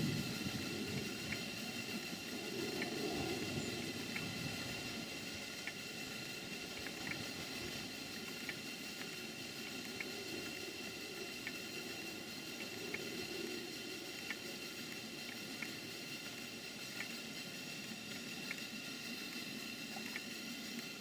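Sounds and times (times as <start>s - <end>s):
light irregular ticks: 0.0s - 21.0s
steam hissing and rushing: 0.0s - 21.0s.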